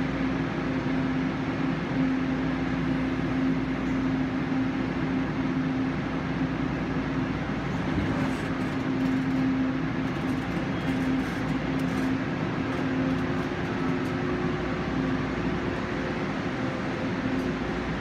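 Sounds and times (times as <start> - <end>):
train equipment humming: 0.0 - 18.0.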